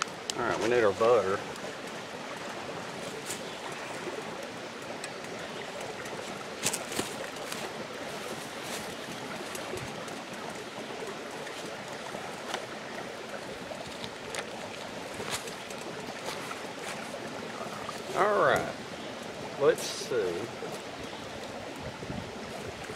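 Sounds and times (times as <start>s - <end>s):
creek flowing: 0.0s - 22.9s.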